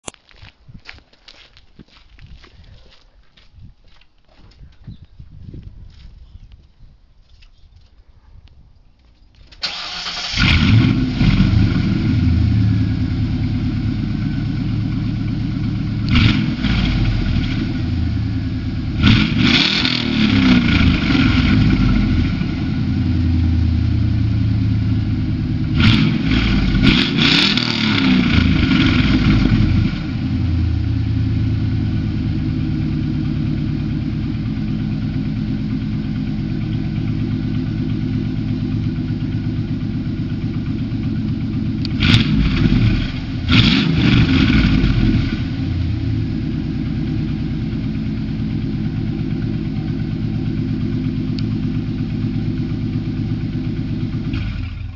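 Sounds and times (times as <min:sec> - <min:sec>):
car engine idling and revving: 0:09.7 - 0:54.9.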